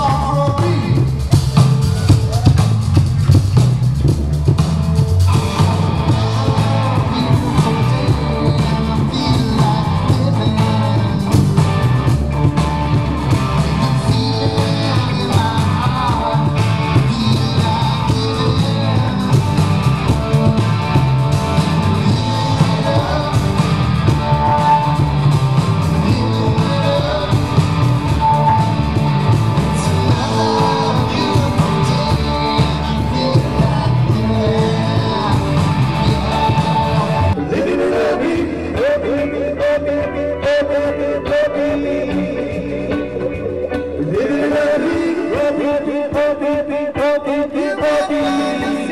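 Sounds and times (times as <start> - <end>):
person singing: 0.0 - 3.4, 5.3 - 48.9
electric guitars: 0.0 - 48.9
steady drum beat: 0.0 - 48.9.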